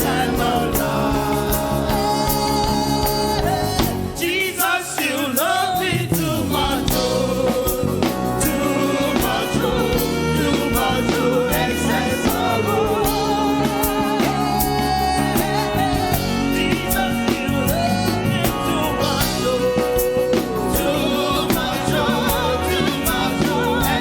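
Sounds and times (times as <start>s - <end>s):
band with keyboard and bass: 0.0s - 24.0s
gospel singers: 0.0s - 24.0s.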